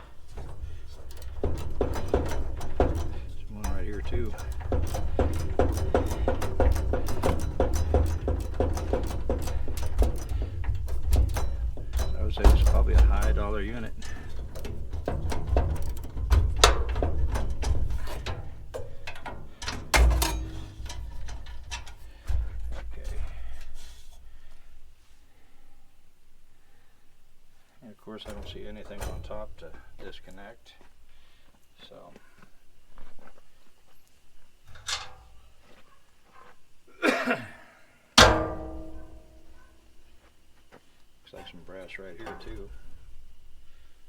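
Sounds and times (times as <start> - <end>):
metal clanks and rattles: 0.0 - 30.9, 34.6 - 36.0, 38.2 - 40.3, 41.2 - 44.0.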